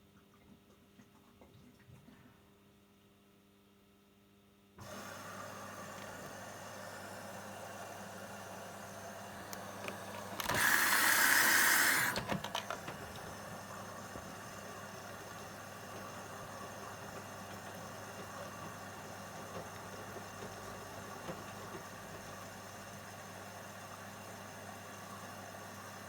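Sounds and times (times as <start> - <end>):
washing machine humming: 4.8 - 26.0.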